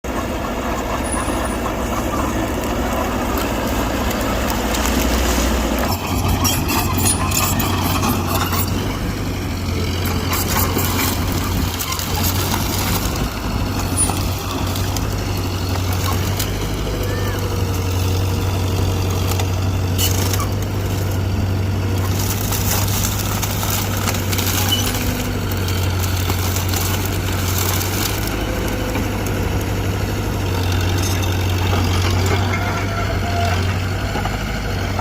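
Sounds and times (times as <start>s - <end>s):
diesel machinery engine running: 0.0s - 35.0s.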